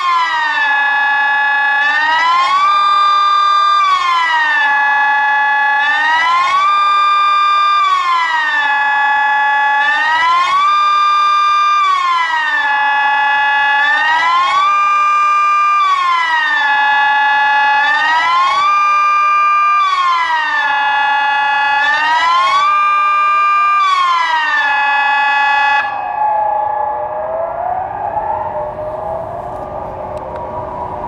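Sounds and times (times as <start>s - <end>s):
civil defence siren wailing: 0.0s - 31.0s.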